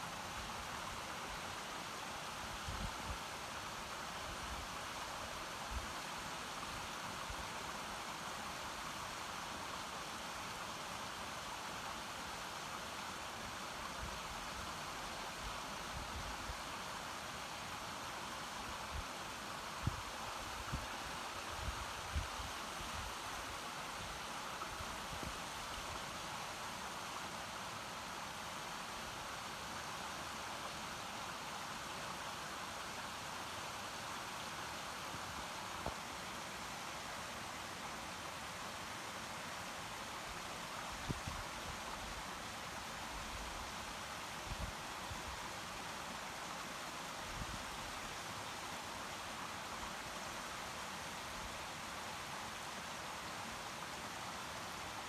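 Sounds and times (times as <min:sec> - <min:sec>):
stream water running over rocks: 0:00.0 - 0:55.0.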